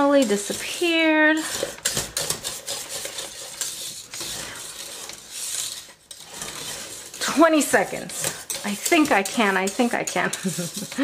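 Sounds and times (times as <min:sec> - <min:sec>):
whisk scraping a metal pot: 0:00.0 - 0:11.0.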